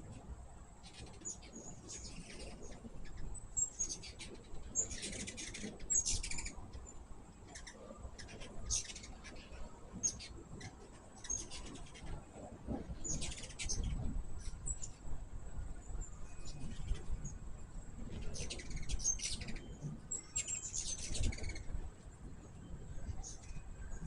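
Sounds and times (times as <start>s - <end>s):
hummingbirds chipping and chattering: 0.0s - 24.0s.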